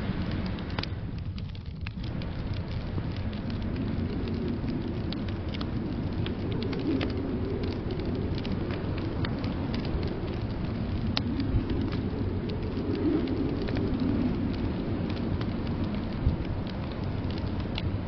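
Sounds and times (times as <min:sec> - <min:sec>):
low rumble of wind: 0:00.0 - 0:18.0
wood fire crackling: 0:00.0 - 0:18.0.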